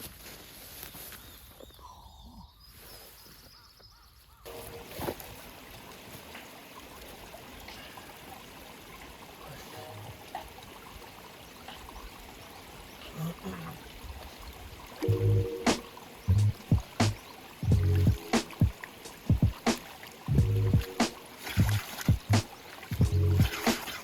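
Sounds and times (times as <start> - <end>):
mountain stream running: 4.4 - 24.0.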